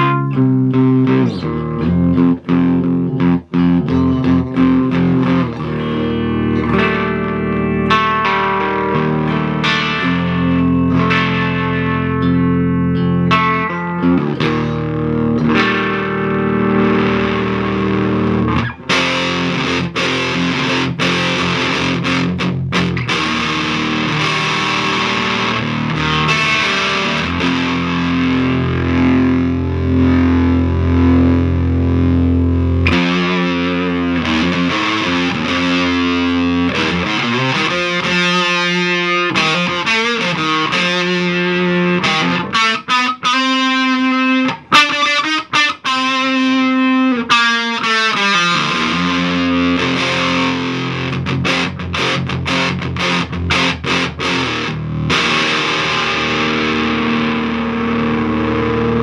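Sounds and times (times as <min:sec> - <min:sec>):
distorted electric guitar riffs: 0:00.0 - 0:59.0.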